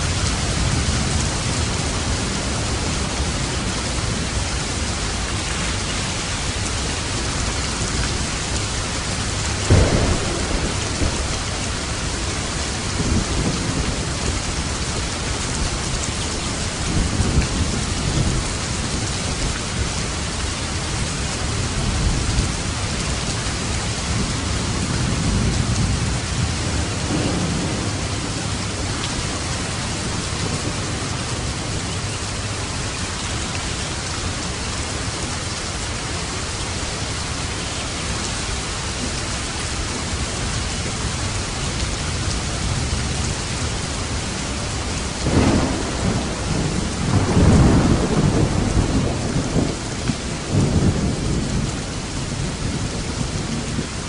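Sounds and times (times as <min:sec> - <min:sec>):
thunder rumbling: 0:00.0 - 0:35.3, 0:39.9 - 0:54.0
heavy rain: 0:00.0 - 0:54.0.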